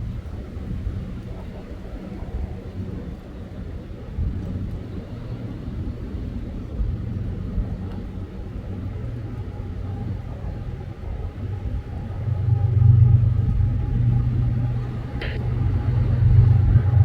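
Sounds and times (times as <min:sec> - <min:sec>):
diesel locomotive rumble and drone: 0:00.0 - 0:17.0.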